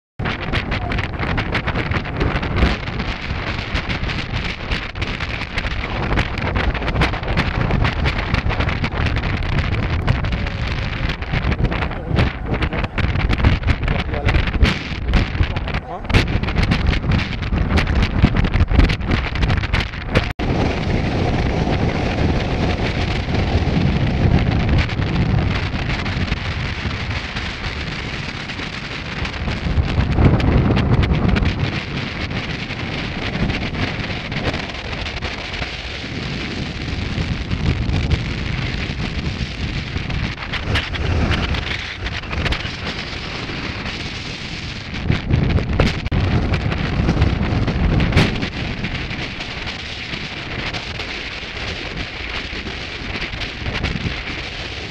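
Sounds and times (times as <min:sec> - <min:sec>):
crackles: 0:00.2 - 0:54.9
gusty wind on microphone: 0:00.2 - 0:54.9.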